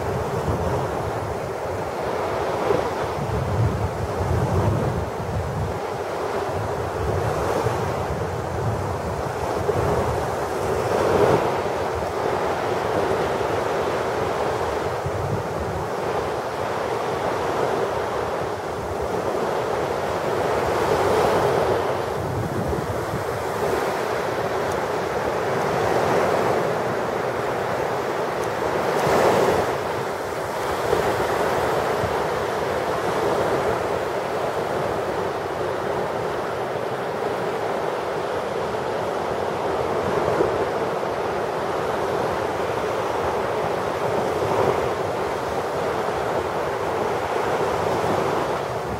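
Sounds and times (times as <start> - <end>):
waves washing on sandy beach: 0.0 - 48.9.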